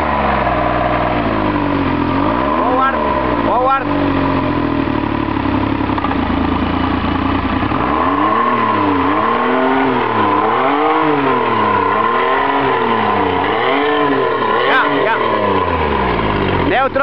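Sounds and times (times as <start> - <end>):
outboard motor revving: 0.0 - 17.0.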